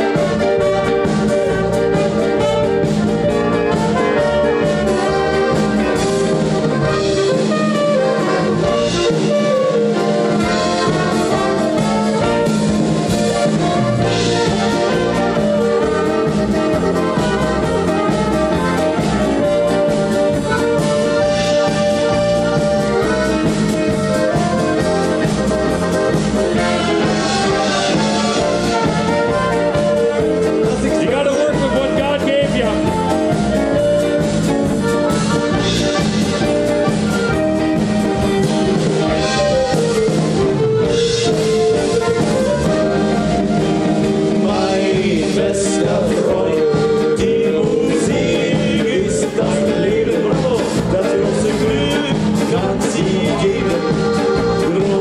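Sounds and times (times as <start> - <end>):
live band playing: 0.0 - 55.0
trumpet melody: 0.0 - 55.0.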